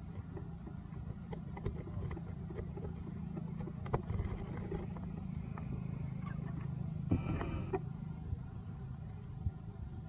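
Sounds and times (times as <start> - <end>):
low engine-like hum: 0.0 - 10.0.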